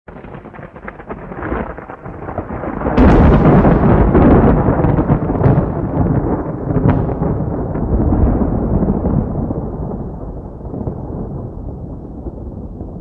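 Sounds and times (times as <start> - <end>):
dense crackling noise: 0.1 - 13.0.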